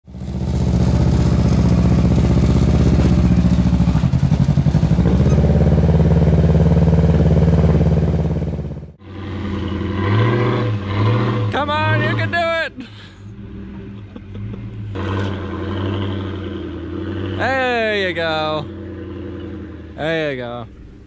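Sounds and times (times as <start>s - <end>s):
motorcycle engine at low revs: 0.0s - 11.6s, 13.2s - 21.0s.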